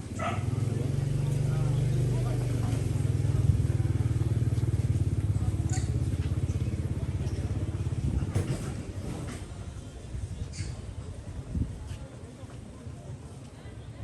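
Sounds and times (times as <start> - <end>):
vehicle engine rumbling: 0.0 - 11.9.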